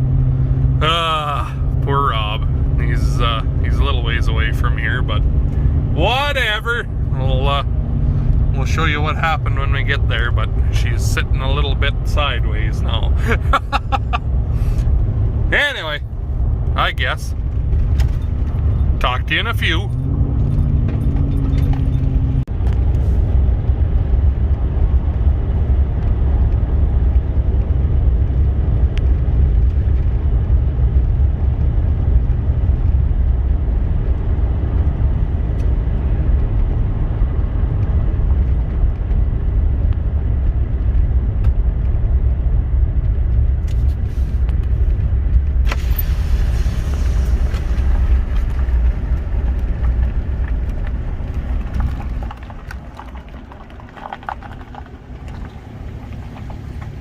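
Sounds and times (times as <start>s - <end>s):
vehicle engine and road rumble: 0.0s - 57.0s.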